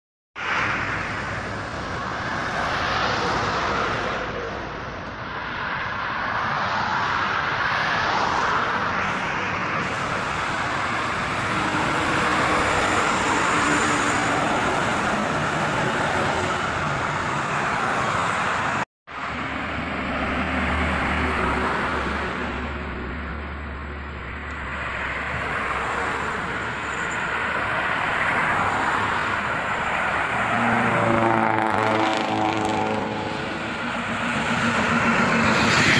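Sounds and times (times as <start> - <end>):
highway traffic passing: 0.4 - 35.9.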